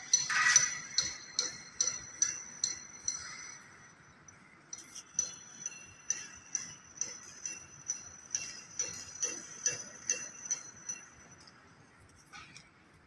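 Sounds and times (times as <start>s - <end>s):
rhythmic metallic jingling: 0.0s - 11.8s.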